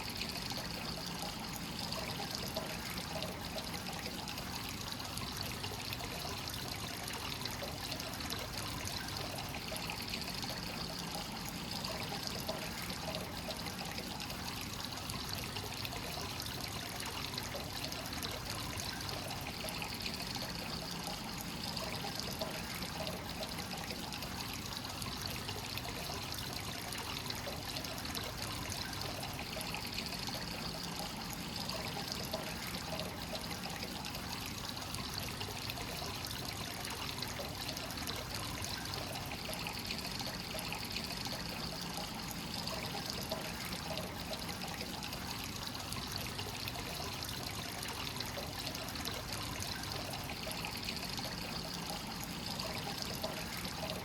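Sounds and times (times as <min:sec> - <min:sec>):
water pouring into a bath: 0:00.0 - 0:54.0.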